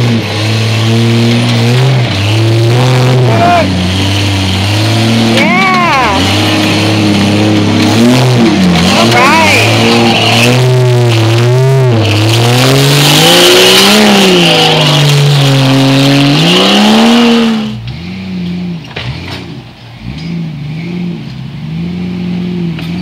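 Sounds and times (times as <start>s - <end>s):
engine revving under load: 0.0s - 23.0s
engine revving unevenly: 0.0s - 23.0s.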